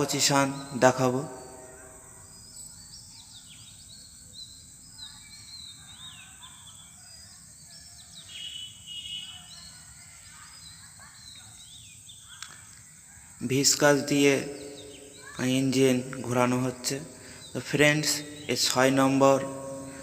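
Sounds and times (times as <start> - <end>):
bird trill: 0.0 - 20.0
birds chirping: 0.0 - 20.0.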